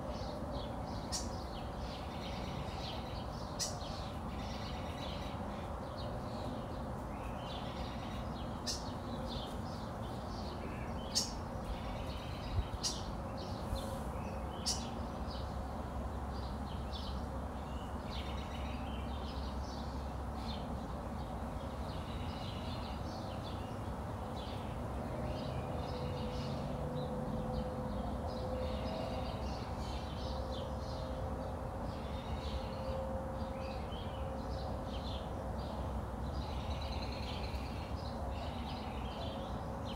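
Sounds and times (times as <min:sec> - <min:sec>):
birds chirping and calling: 0:00.0 - 0:31.1, 0:31.8 - 0:39.9.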